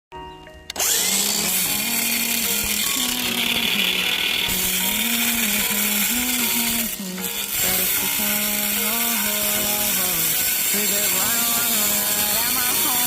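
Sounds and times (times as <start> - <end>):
angle grinder cutting metal pipe: 0.7 - 13.0.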